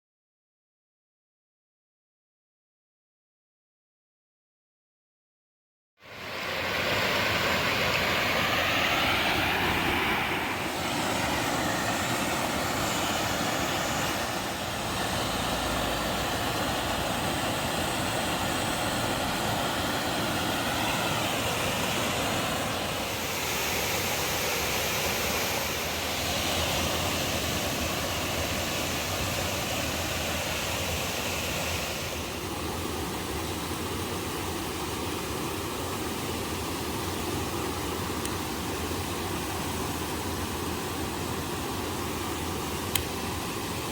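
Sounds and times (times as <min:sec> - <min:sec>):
water flowing down stream: 0:06.0 - 0:43.9.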